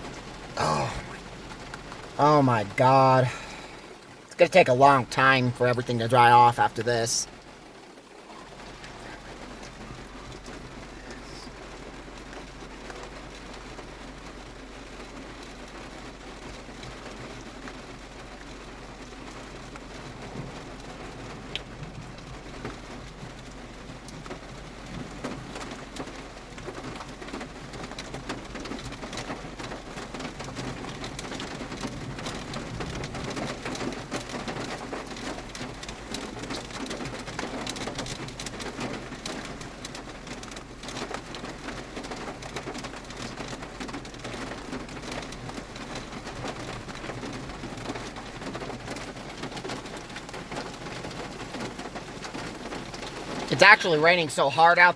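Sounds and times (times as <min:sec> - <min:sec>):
heavy rain on car roof: 0:00.0 - 0:54.9.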